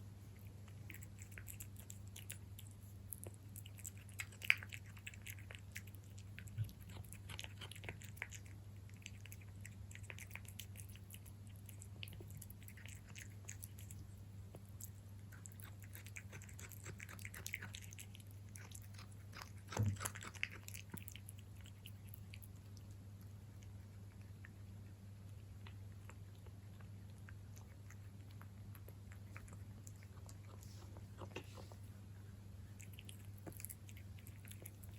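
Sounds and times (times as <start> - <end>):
cat chewing wet food: 0.0 - 34.9.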